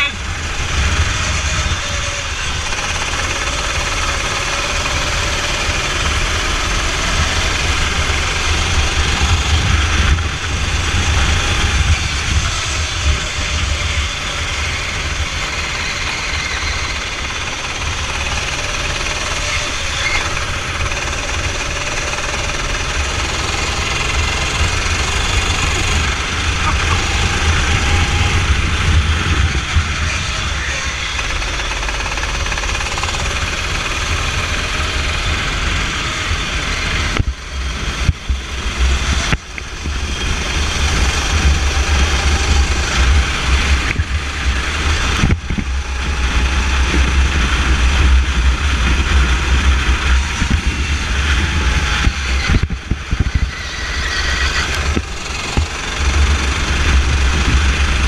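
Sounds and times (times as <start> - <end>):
wind rumble on microphone: 0.0 - 3.1, 5.1 - 18.2, 24.1 - 32.2, 33.4 - 58.0
kart engine running at speed: 0.0 - 58.0.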